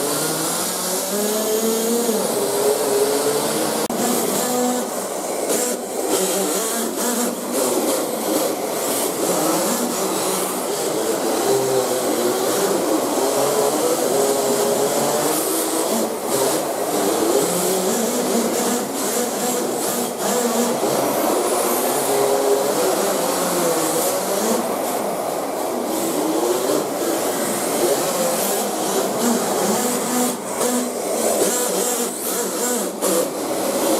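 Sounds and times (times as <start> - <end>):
small engine revving high: 0.0 - 33.9.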